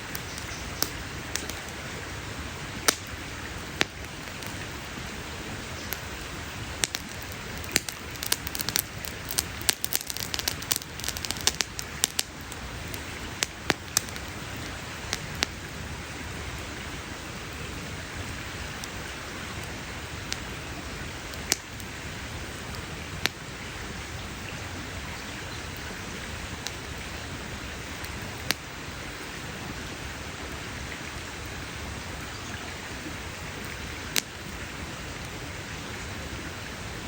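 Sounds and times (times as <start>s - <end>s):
campfire crackling and popping: 0.0s - 37.0s
hiss of burning fire: 0.0s - 37.0s.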